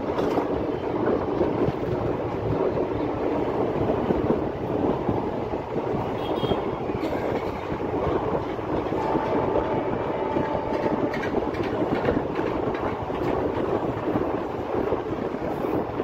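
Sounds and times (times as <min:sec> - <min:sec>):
clickety-clack over rail joints: 0:00.0 - 0:16.0
train wheels rumbling on track: 0:00.0 - 0:16.0.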